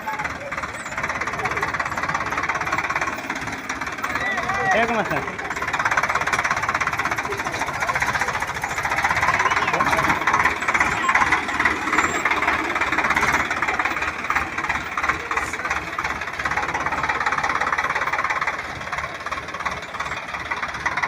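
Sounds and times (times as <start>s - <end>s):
tractor diesel engine straining: 0.0s - 21.0s.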